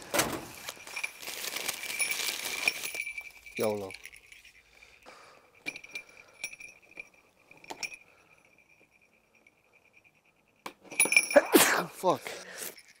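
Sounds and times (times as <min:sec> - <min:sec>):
small metal bells clinking: 0:00.5 - 0:13.0.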